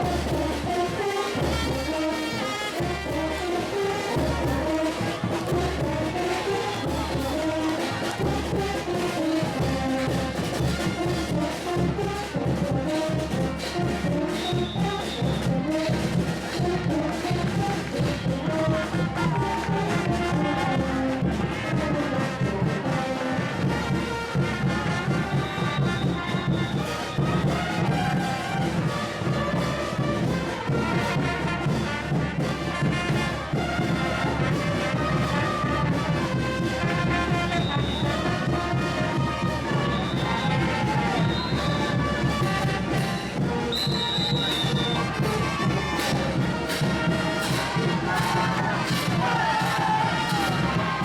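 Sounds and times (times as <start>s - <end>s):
brass band playing parade music: 0.0s - 51.0s
steady drum beat: 0.0s - 51.0s.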